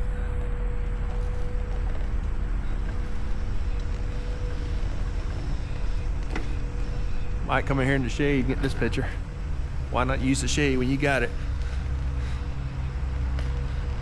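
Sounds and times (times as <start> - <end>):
heavy machinery engine rumble: 0.0 - 14.0
thin steady whine: 0.0 - 14.0.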